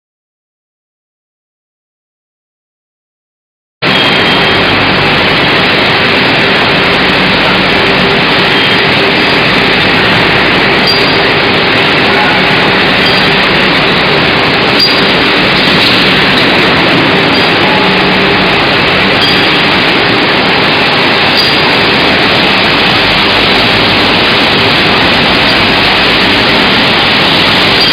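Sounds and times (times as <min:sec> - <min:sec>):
loud machine noise with hum: 0:03.8 - 0:27.9.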